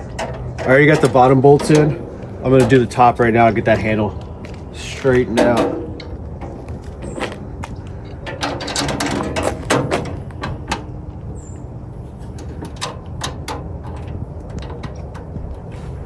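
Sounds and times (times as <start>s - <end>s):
metal clicks and clanks: 0.0s - 16.0s.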